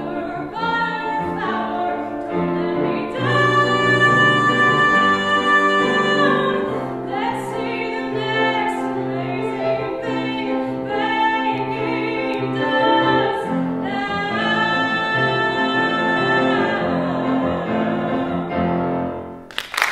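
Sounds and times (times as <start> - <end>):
woman singing: 0.0 - 18.4
piano chords: 0.0 - 19.5.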